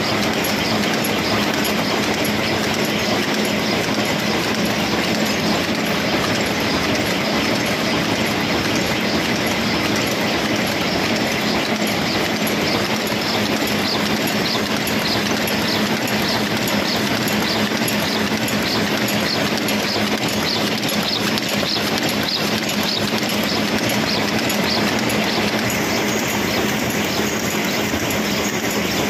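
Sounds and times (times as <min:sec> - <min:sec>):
constant machine hum: 0:00.0 - 0:29.0
machine clattering with fast clicks: 0:00.0 - 0:29.0.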